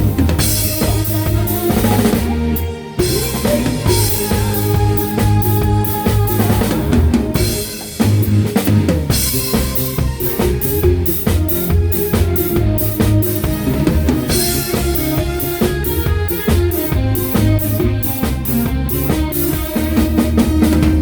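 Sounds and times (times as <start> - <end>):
drum kit beat: 0.0 - 21.0
live band playing: 0.0 - 21.0.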